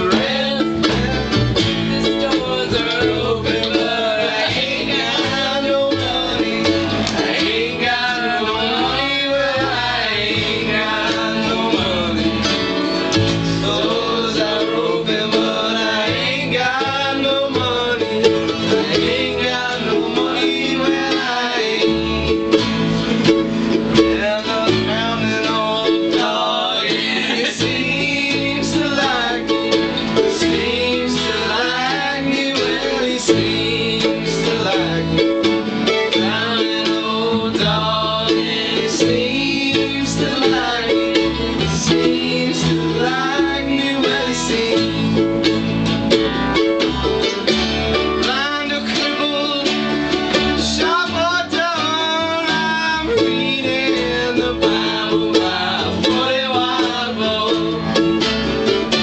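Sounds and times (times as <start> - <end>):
people singing: 0.0 - 45.5, 47.2 - 59.0
acoustic guitars strummed: 0.0 - 59.0.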